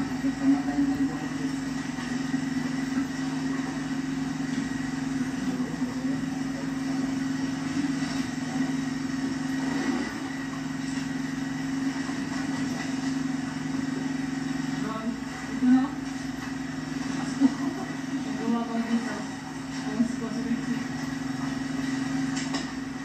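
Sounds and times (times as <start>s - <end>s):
low mechanical motor drone: 0.0s - 23.0s.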